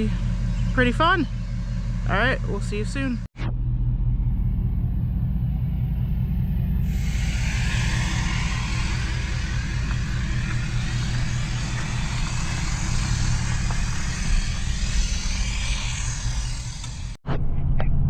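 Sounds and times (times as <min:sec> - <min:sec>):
vehicle road noise: 0:00.0 - 0:17.2.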